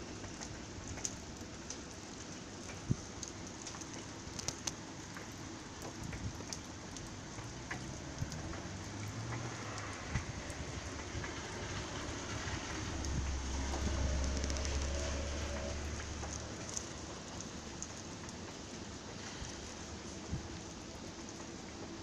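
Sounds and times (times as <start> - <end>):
steady rain hiss: 0.0 - 22.0
sharp drip ticks: 0.1 - 22.0.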